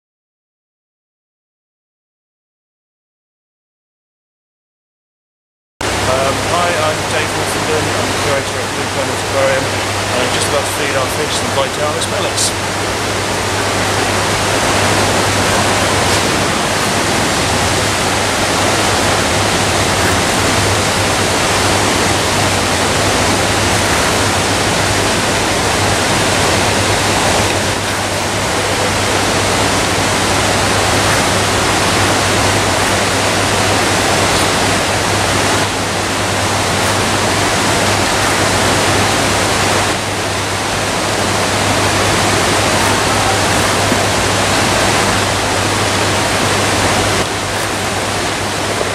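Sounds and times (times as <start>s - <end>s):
low hum: 5.8s - 48.9s
water rushing in aquarium: 5.8s - 48.9s.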